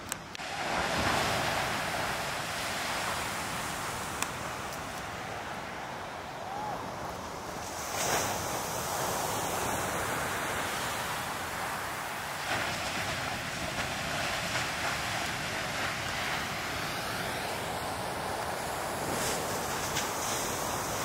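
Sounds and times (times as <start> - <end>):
ocean waves breaking: 0.0 - 21.0.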